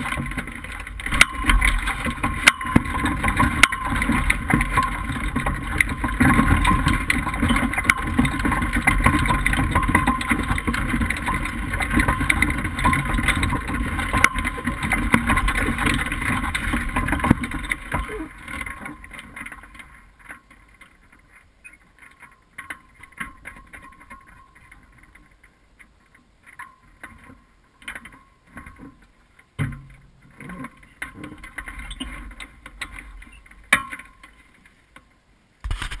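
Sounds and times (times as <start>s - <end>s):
clicks and knocks from glider frame: 0.0s - 36.0s.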